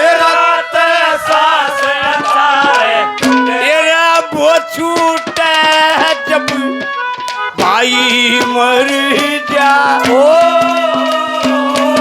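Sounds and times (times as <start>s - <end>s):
hand drum strokes: 0.0s - 12.0s
wavering folk melody: 0.0s - 12.0s.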